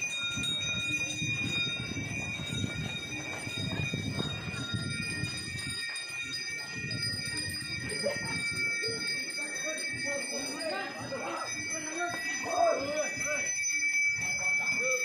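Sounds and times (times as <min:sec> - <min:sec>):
bells ringing: 0:00.0 - 0:15.0.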